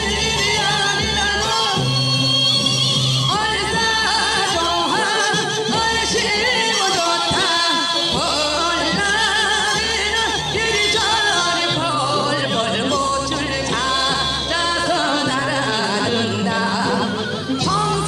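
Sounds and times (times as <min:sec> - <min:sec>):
folk singing with vibrato: 0:00.0 - 0:18.0.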